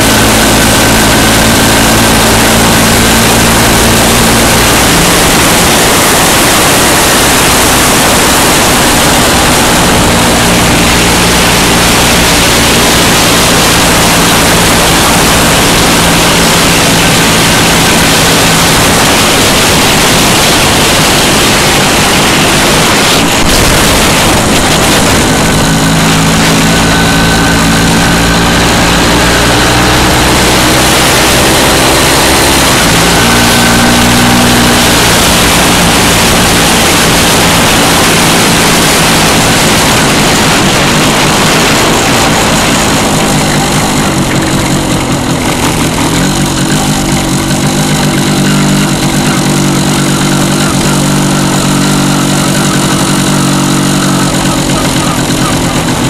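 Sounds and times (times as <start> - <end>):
wind rush over microphone: 0.0 - 47.9
motorcycle engine running: 0.0 - 56.0.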